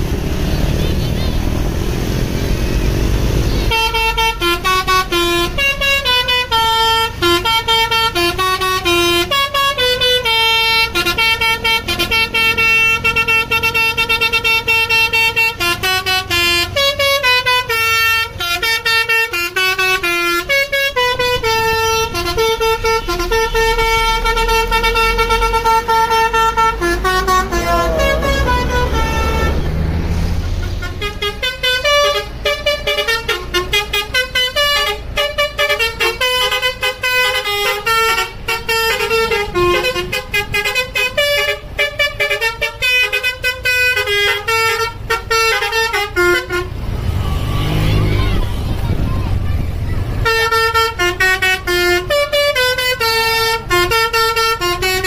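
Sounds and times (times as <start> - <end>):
diesel engine running: 0.0 - 55.0
musical bus horn tune: 3.5 - 48.3, 50.2 - 55.0.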